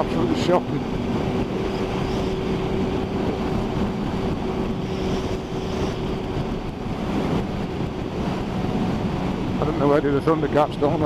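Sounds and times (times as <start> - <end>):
wind rushing: 0.0 - 9.9
motorcycle engine cruising: 0.0 - 10.7.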